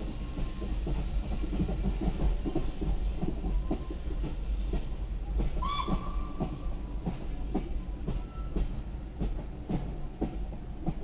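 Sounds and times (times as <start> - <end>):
train wheels clicking over joints: 0.0 - 11.0.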